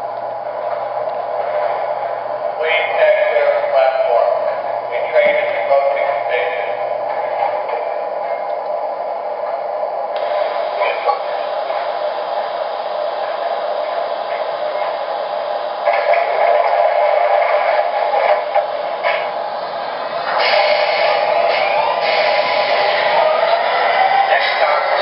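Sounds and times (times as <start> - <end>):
model train whirring hum: 0.0 - 25.0.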